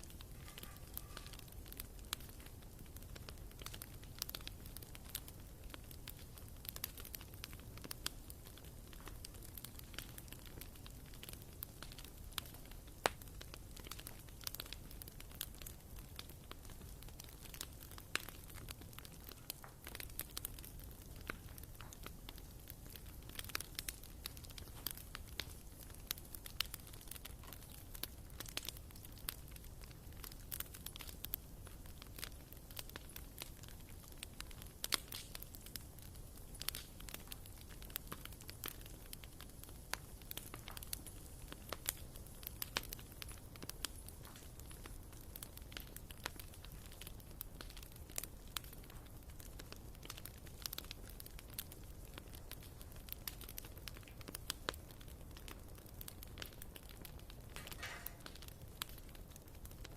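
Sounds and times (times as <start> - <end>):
faint low hiss: 0.0 - 59.9
wood fire crackling: 0.0 - 59.9.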